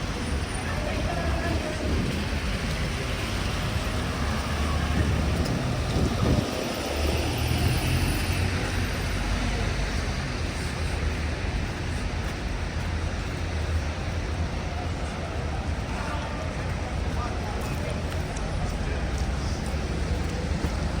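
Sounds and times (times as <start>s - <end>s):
passing traffic rumble: 0.0s - 21.0s.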